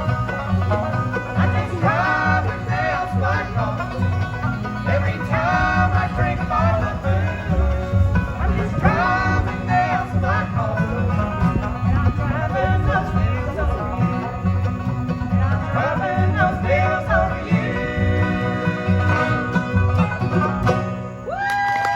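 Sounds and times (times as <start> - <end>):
bass beat: 0.0 - 21.2
bluegrass band playing: 0.0 - 21.3.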